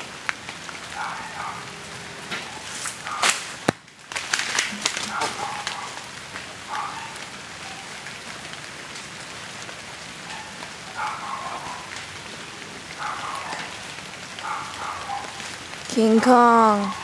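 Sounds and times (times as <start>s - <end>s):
steady rain-like patter: 0.0s - 17.0s.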